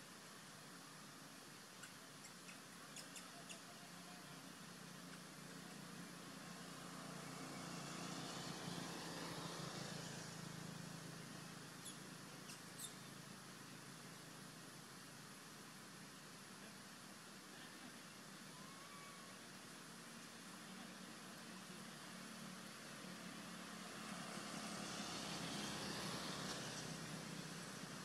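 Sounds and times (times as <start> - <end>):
distant engine hum: 0.0 - 28.0.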